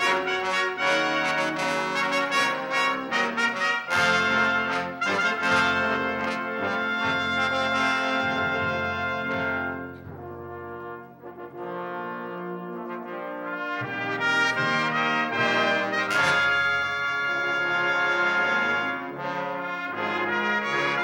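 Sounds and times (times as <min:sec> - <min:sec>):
brass ensemble playing chords: 0:00.0 - 0:21.0.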